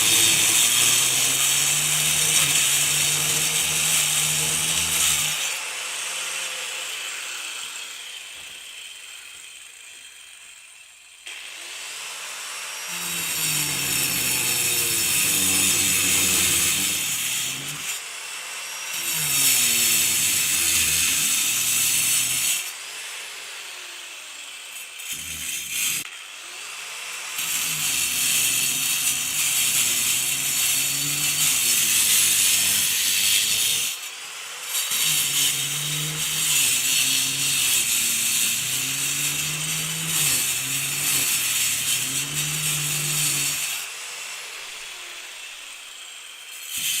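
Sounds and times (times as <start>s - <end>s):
angle grinder cutting concrete: 0.0s - 47.0s.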